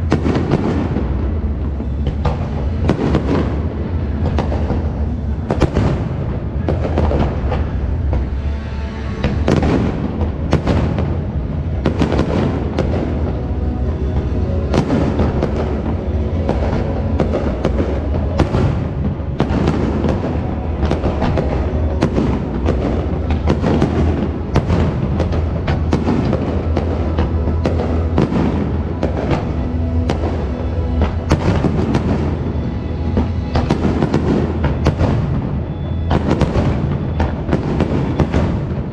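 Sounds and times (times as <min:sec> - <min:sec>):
fireworks bangs: 0:00.0 - 0:38.9
music: 0:00.0 - 0:38.9.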